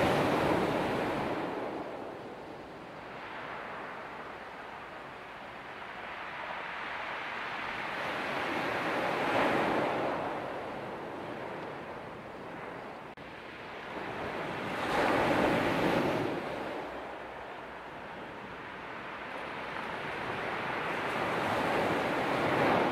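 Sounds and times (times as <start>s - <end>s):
sea waves on shore: 0.0s - 22.9s.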